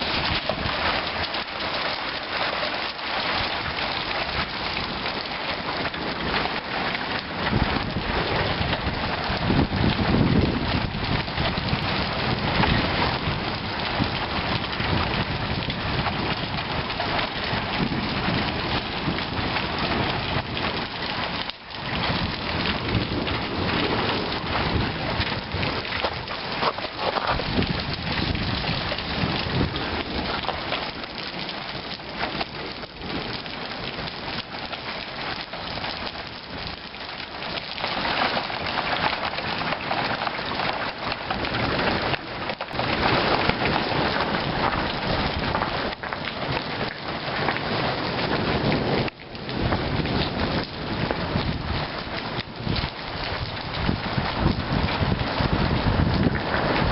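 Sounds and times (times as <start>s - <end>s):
hail and rain pelting down: 0.0s - 56.9s.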